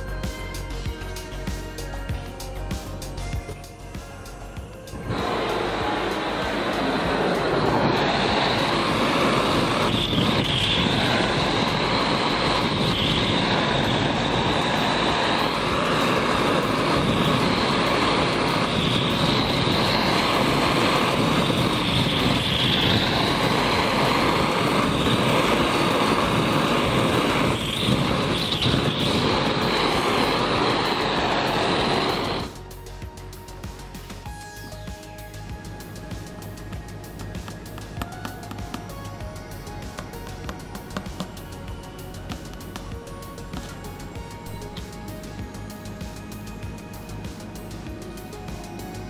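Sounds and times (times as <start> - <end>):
blowtorch hissing: 4.8 - 34.0, 34.7 - 49.0.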